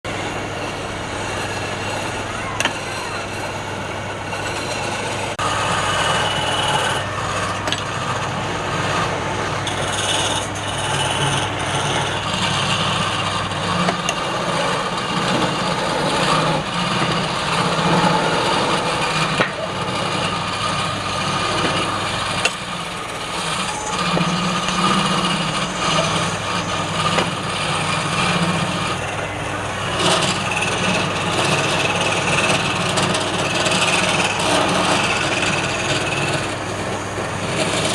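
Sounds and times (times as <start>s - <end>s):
wood lathe motor hum: 0.0s - 37.9s
turning tool rasping wood: 0.1s - 37.9s.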